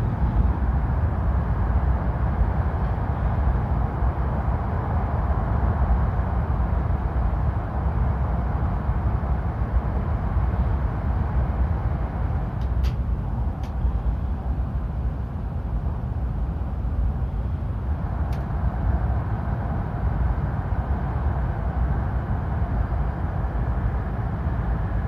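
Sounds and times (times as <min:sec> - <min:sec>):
train rumbling in tunnel: 0:00.0 - 0:25.0.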